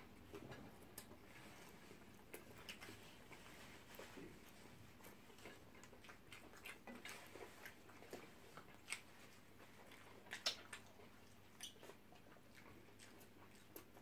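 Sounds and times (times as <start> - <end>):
soft chewing mouth sounds: 0.0 - 14.0.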